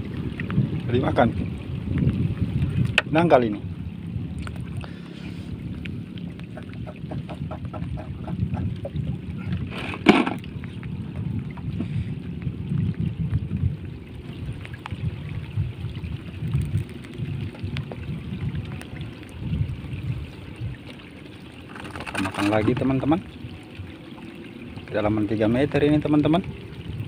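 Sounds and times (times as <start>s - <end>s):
wind on microphone: 0.0s - 20.9s, 24.7s - 27.0s
water lapping against boat hull: 0.0s - 27.0s.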